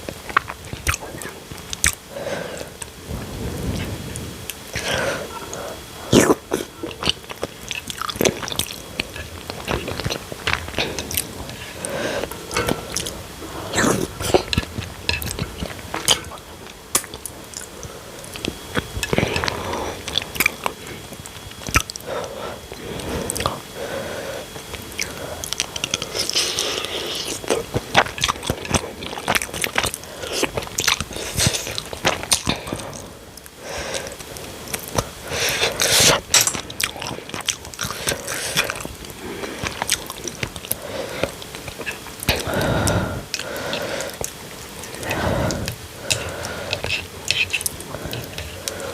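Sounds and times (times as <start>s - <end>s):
person chewing and biting: 0.0s - 2.0s, 6.1s - 23.8s, 24.5s - 48.9s.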